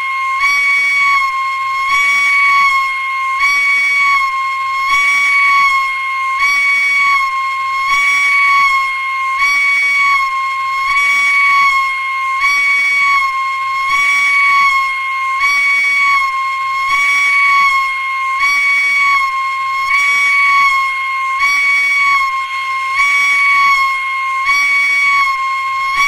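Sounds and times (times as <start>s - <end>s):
railroad crossing siren: 0.0s - 26.0s.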